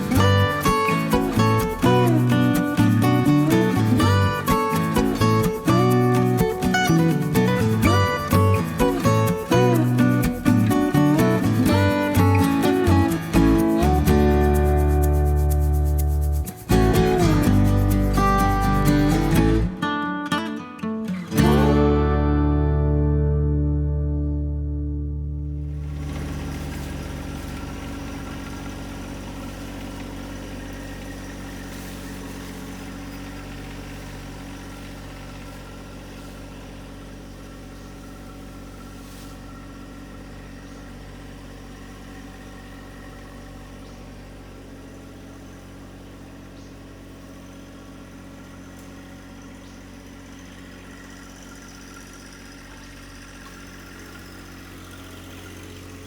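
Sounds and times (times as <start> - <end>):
tractor diesel engine running: 0.0 - 20.1, 21.3 - 56.0.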